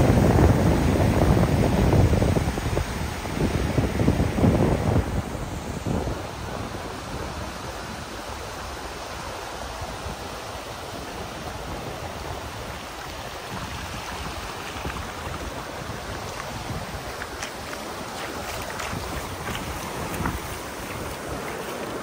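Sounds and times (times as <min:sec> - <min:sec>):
small waves breaking on shore: 0:00.0 - 0:22.0.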